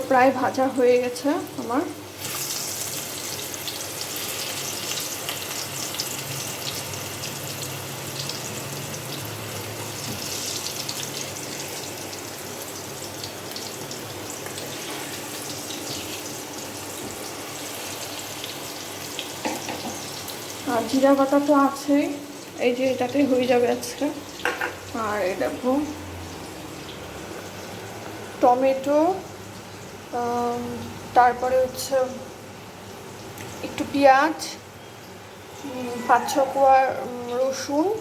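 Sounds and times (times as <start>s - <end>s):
potatoes sizzling in oil: 0.0s - 38.0s.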